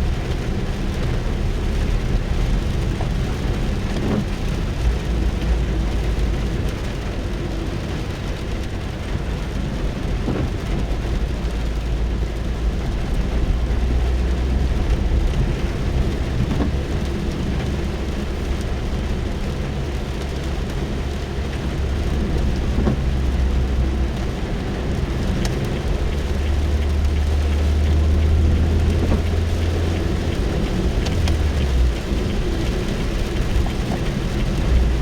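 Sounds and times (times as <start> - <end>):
car rumble: 0.0 - 35.0
rain pattering on car: 0.0 - 35.0
raindrop taps: 0.0 - 35.0.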